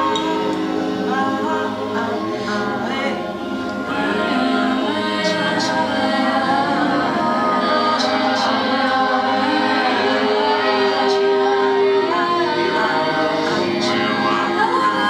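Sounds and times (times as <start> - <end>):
voices singing together: 0.0 - 15.0.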